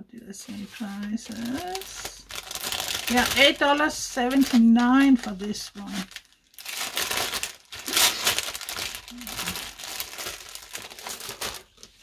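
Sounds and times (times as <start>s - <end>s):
packaging crinkling and rustling: 0.4s - 12.0s.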